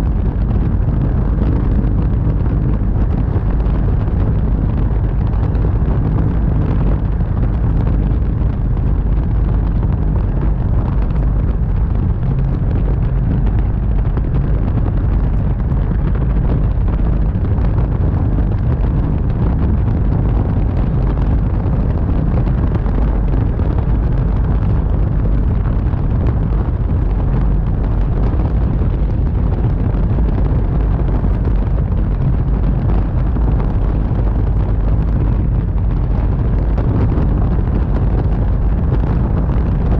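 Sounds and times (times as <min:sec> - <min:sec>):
airflow buffeting microphone: 0:00.0 - 0:39.9.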